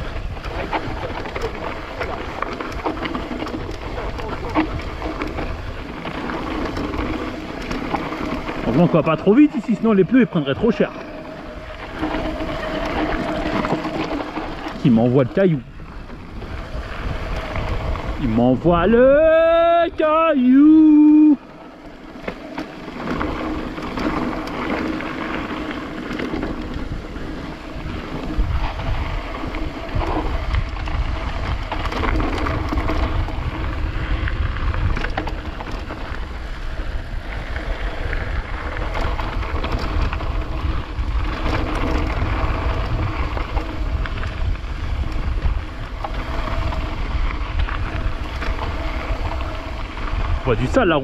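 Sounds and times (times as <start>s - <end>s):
wind on microphone: 0.0s - 21.4s, 22.2s - 51.0s
bike rattling: 0.0s - 51.0s
tyres rolling over gravel: 0.0s - 51.0s.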